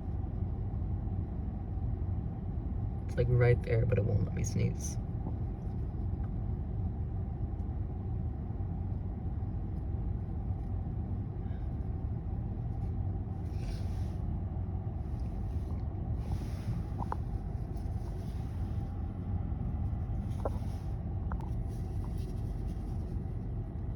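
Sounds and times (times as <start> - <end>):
low background rumble: 0.0 - 23.9.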